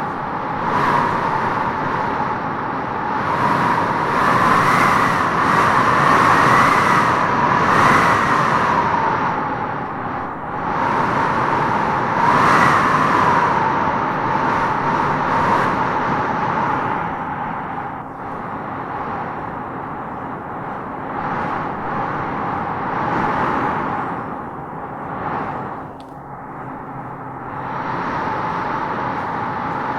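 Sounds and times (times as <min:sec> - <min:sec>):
wind gusts whistling: 0:00.0 - 0:29.9.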